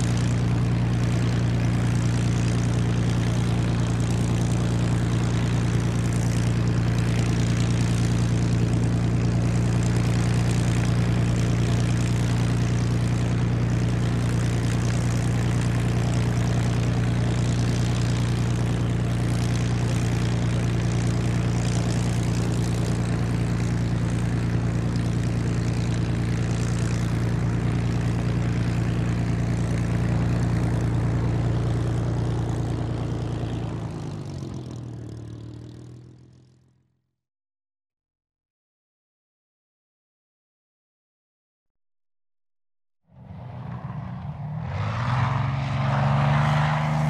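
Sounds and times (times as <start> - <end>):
propeller aircraft engine running: 0.0 - 36.8, 43.1 - 47.0.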